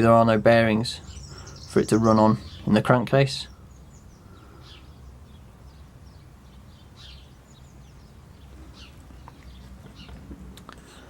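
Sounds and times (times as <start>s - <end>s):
low steady hum: 0.0s - 11.0s
faint bird chirps: 1.0s - 10.2s.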